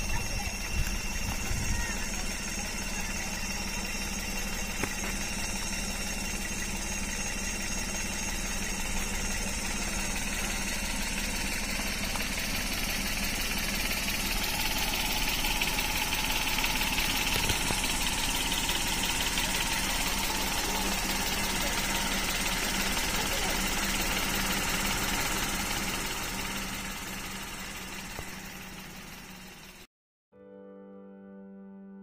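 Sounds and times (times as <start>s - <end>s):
vehicle engine idling: 0.0s - 29.9s.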